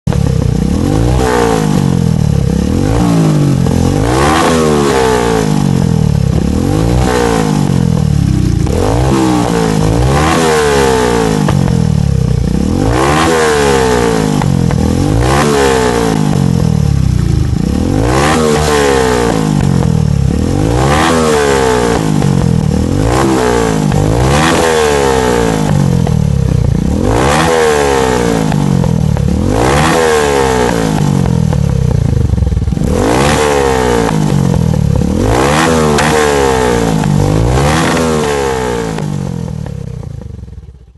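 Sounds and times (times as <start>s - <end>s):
exhaust popping: 0.0s - 40.9s
motorcycle engine revving: 0.0s - 40.9s.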